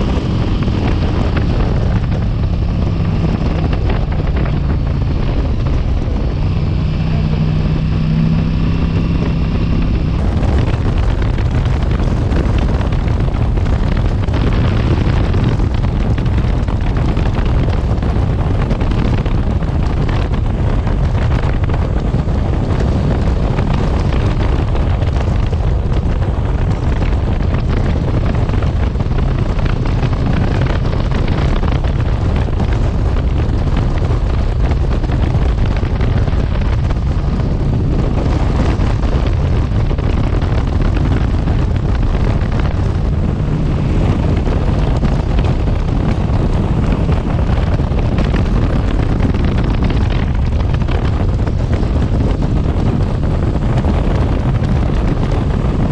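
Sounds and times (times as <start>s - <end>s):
motorcycle engine and road noise: 0.0s - 55.9s
wind buffeting microphone: 0.0s - 55.9s.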